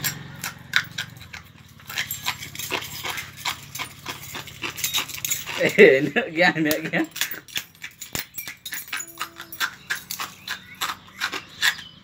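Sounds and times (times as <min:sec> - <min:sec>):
glass crunching when chewed: 0:00.0 - 0:05.9, 0:07.2 - 0:12.0.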